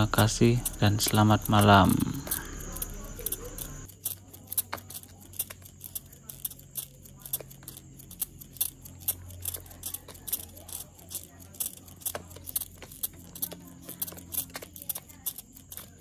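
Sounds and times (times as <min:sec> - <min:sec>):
spray bottle squirting: 0:00.0 - 0:16.0.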